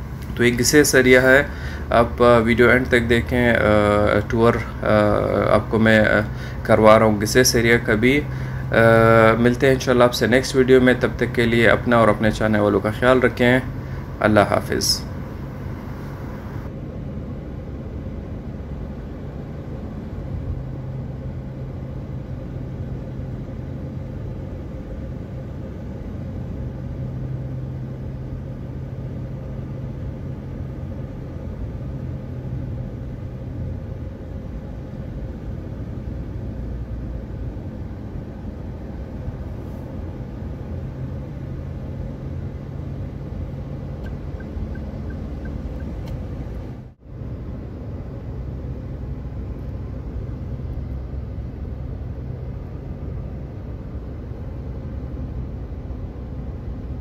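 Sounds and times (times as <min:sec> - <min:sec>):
car engine and tyres humming: 0:00.0 - 0:57.0.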